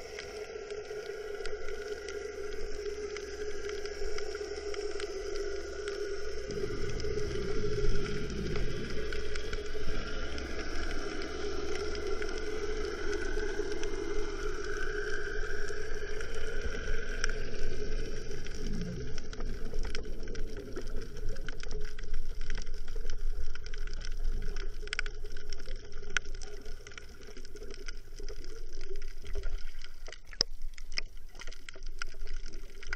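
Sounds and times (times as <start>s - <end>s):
underwater hum and rumble: 0.0s - 32.9s.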